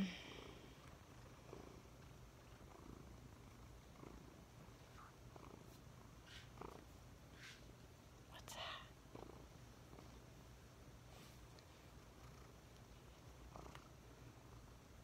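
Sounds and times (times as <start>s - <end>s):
cat purring: 0.0s - 7.7s, 8.8s - 15.0s.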